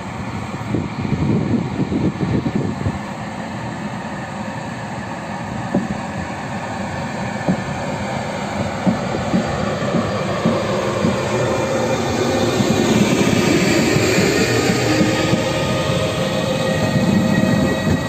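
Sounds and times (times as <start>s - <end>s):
locomotive electrical whine: 2.3s - 18.0s.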